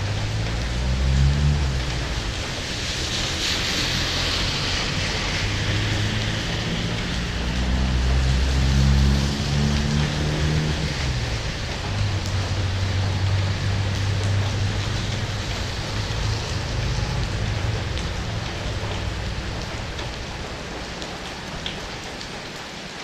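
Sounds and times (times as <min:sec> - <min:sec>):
low vehicle engine hum: 0:00.0 - 0:21.8
heavy rain falling: 0:00.0 - 0:23.0.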